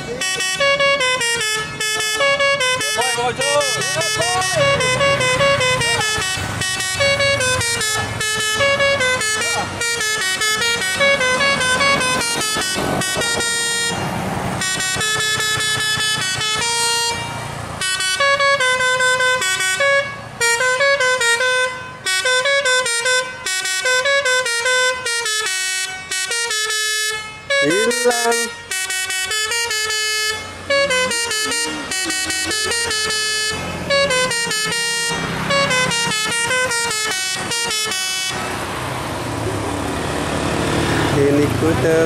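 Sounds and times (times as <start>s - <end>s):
musical air horn melody: 0.1s - 38.4s.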